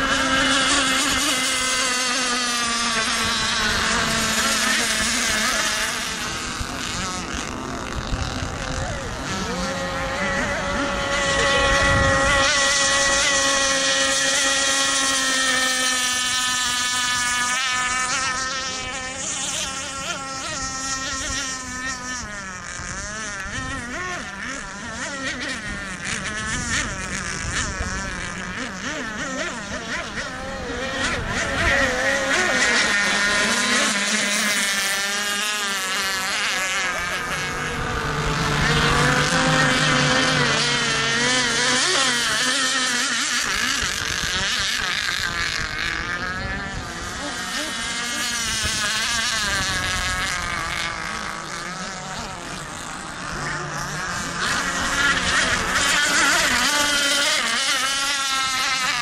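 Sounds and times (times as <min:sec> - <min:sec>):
model boat engines whining: 0:00.0 - 0:59.0.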